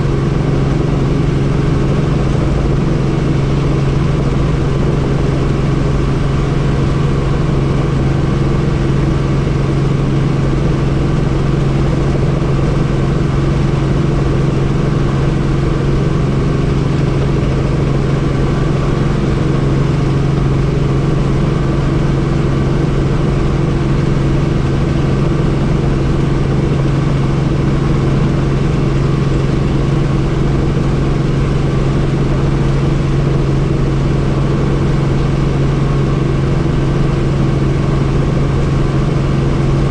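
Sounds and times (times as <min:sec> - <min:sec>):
helicopter in flight: 0:00.0 - 0:39.9.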